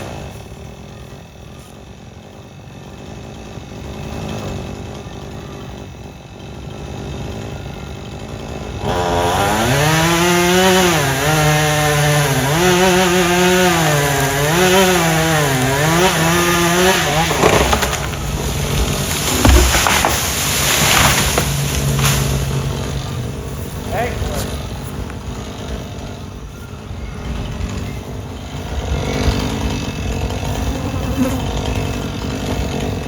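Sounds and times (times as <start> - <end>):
chainsaw cutting wood: 0.0 - 26.5, 27.1 - 33.0.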